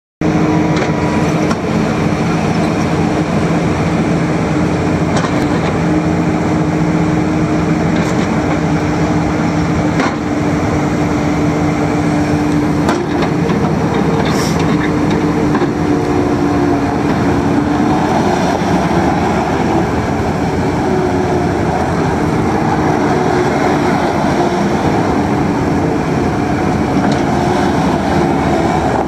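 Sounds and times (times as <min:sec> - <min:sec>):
diesel engine running: 0:00.2 - 0:29.0.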